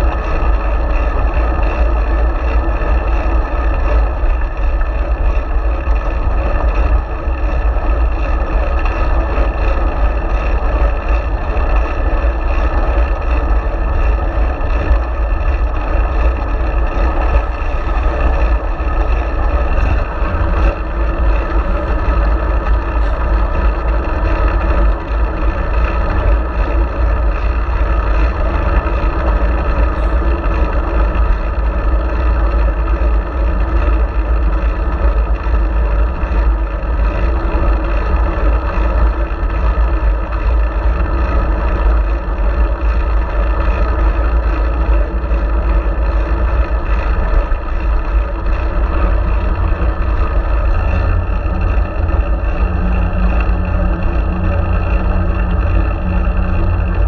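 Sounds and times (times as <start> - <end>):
low steady hum: 0.0 - 57.0
wind buffeting microphone: 0.0 - 57.0.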